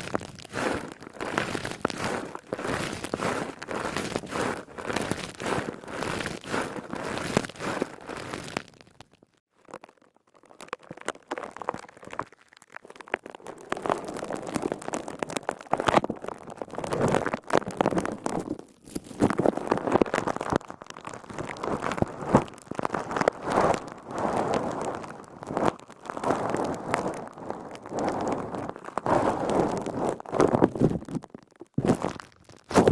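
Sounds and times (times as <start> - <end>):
sponge crackling and squishing: 0.0 - 32.9.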